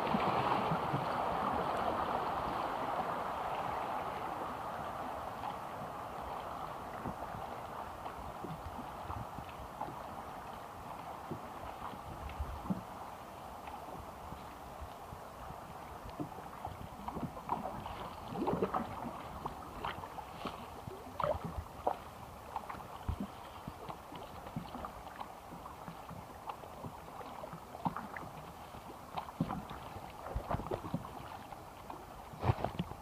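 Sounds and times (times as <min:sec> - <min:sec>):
rushing river water: 0:00.0 - 0:33.0.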